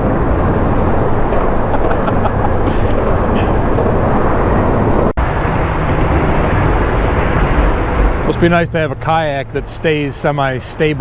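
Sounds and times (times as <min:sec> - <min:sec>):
loud low rumbling: 0:00.0 - 0:10.1.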